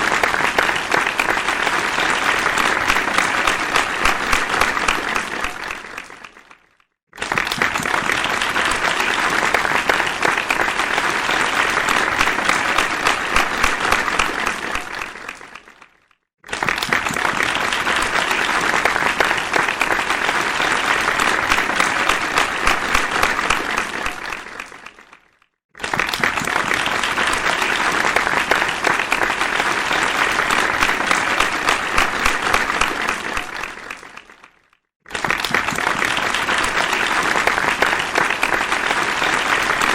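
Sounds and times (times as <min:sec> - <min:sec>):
crowd applause: 0:00.0 - 0:39.9.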